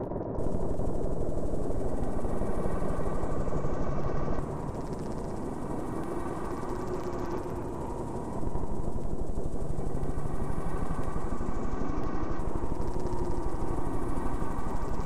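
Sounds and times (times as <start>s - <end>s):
droning noise with low rumble: 0.0s - 15.0s.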